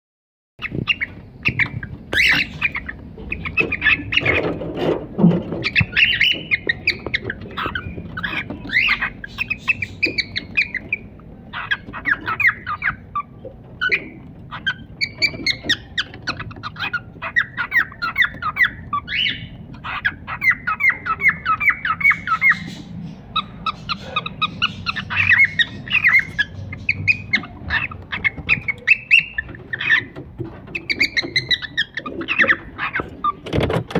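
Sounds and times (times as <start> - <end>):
bird squawks: 0.6 - 4.7, 5.5 - 33.4
cockatiels chirping: 0.6 - 33.9.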